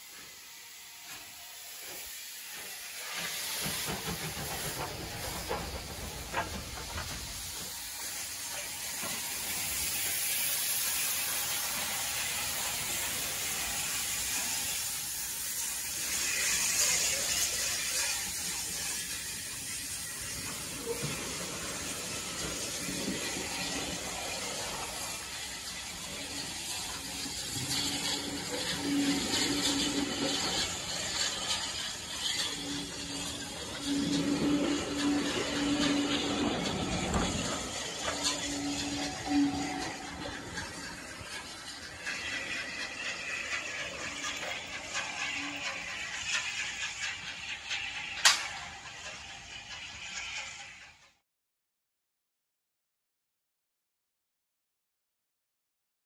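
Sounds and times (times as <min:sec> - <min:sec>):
train wheels clattering over rail joints: 0:01.1 - 0:14.8, 0:15.4 - 0:51.1.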